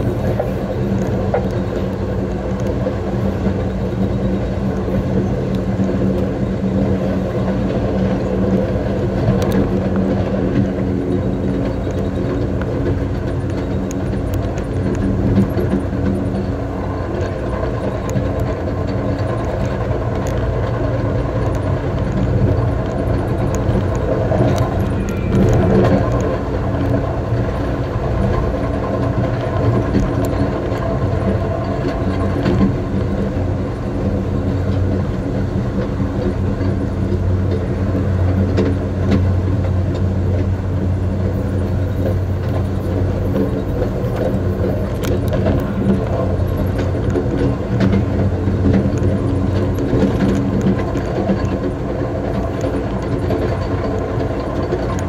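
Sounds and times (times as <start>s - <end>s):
constant low hum: 0.0s - 55.0s
wheels rumbling on rails: 0.0s - 55.0s.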